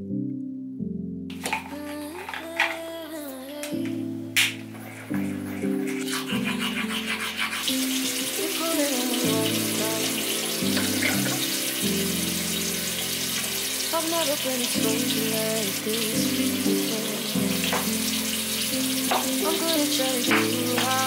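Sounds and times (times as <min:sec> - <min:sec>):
sink tap running: 0:01.3 - 0:02.8, 0:03.5 - 0:21.0
song with singing voice: 0:01.4 - 0:21.0.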